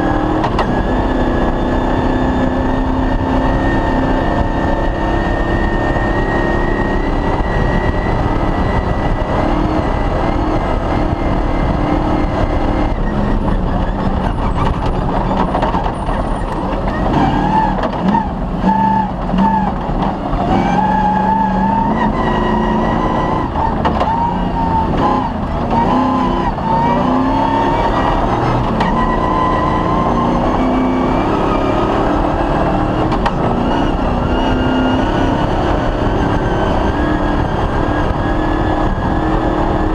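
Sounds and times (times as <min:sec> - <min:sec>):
constant low rumble: 0:00.0 - 0:39.9
rally car engine running hard: 0:00.0 - 0:39.9.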